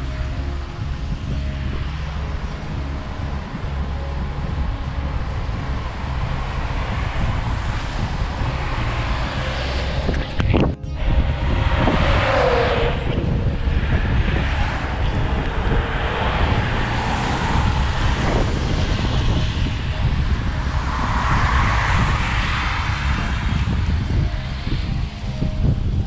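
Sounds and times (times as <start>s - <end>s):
cars passing on wet road: 0.0s - 26.0s
wind noise on microphone: 0.0s - 26.0s.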